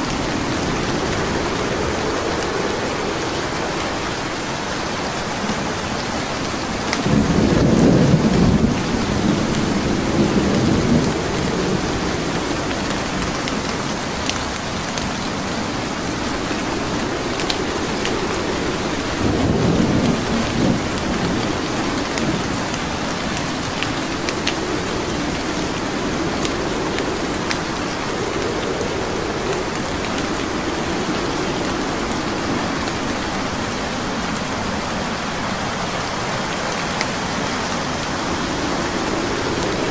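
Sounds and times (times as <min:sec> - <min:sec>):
steady rain: 0:00.0 - 0:39.9
thunder rumbling: 0:00.0 - 0:39.9
wood fire crackling: 0:00.0 - 0:39.9.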